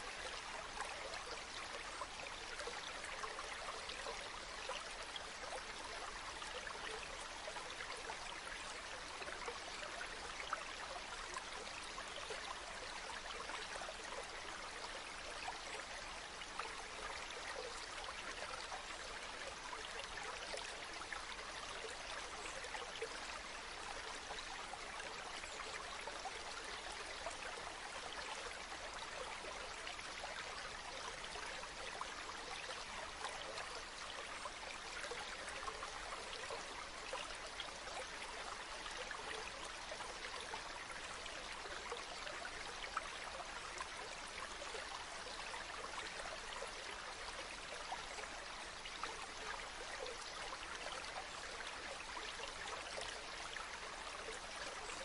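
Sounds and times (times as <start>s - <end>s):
stream murmuring over stones: 0.0s - 55.0s.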